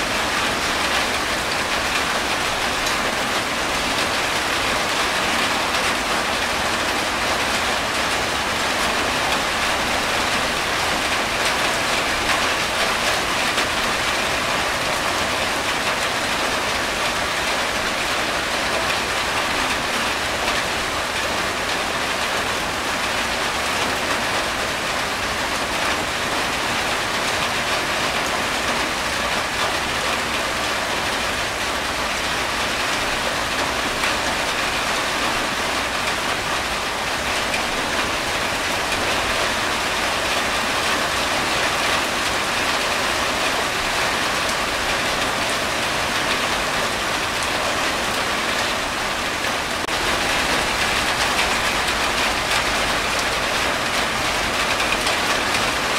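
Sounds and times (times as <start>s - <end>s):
rain on a tin roof: 0.0s - 55.9s
water streaming off roof: 0.0s - 55.9s.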